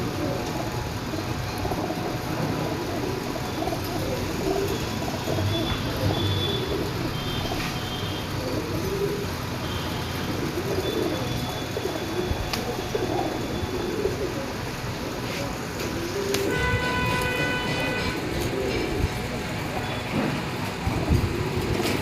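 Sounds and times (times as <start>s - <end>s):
pigeons cooing: 0.0s - 22.0s
steady background noise: 0.0s - 22.0s.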